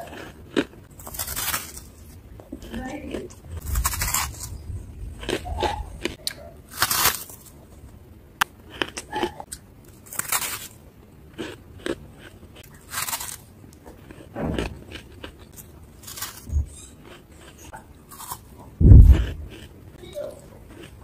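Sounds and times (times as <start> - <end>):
biting crunchy frost: 0.0 - 7.6, 8.6 - 19.7.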